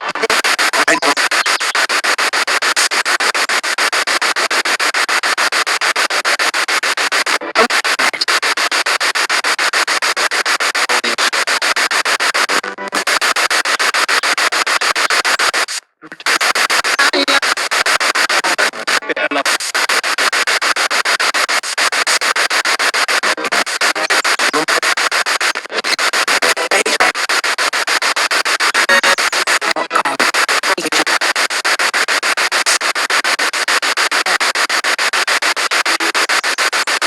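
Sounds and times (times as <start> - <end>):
radio static pulsing: 0.0 - 37.0.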